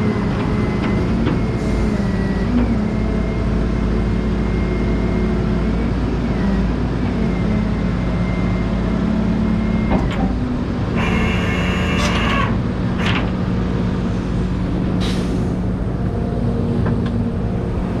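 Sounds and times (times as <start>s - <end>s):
heavy vehicle engine running: 0.0s - 18.0s.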